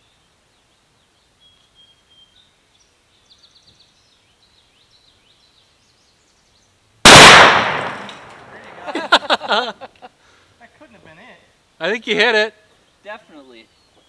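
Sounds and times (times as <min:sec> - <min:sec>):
faint birdsong: 0:00.0 - 0:14.0
outdoor background noise: 0:00.0 - 0:14.0.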